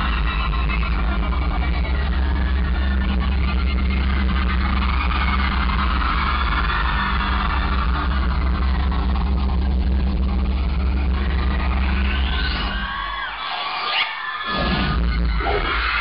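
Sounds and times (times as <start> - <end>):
deep drone from sound system: 0.0 - 13.3, 14.4 - 16.0
crowd screaming and cheering: 0.0 - 16.0.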